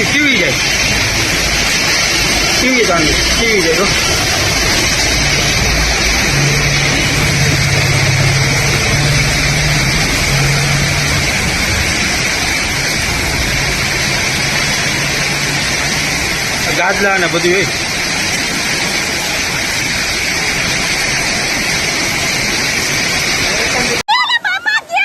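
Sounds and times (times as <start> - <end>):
vehicle engine humming: 0.0 - 24.0
floodwater rushing torrent: 0.0 - 25.0.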